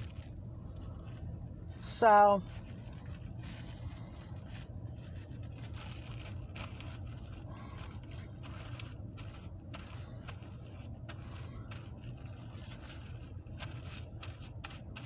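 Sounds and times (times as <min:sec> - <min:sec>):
faint handling clicks and rustles: 0:00.0 - 0:15.0
low hum inside car: 0:00.0 - 0:15.0.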